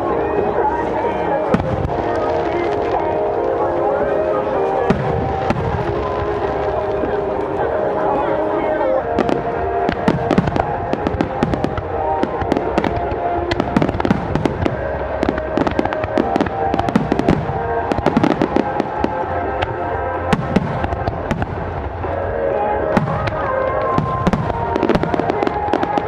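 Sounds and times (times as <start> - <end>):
fireworks cracking and banging: 0.0 - 26.0.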